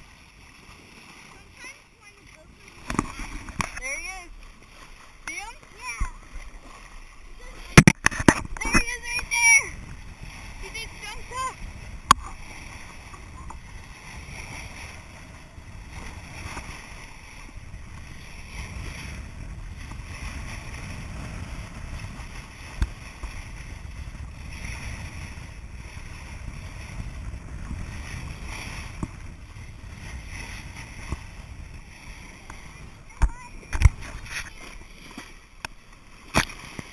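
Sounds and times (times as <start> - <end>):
bow wave rushing and splashing: 0.0 - 36.9
wind rumbling on microphone: 0.0 - 36.9.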